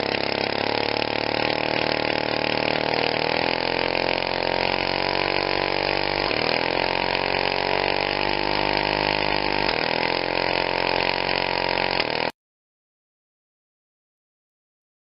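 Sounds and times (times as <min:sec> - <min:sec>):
small model engine humming: 0:00.0 - 0:12.3.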